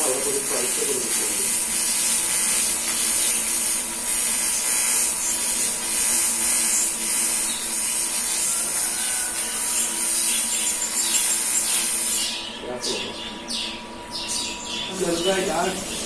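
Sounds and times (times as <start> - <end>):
welding arc buzzing hiss: 0.0 - 12.4, 14.9 - 16.0.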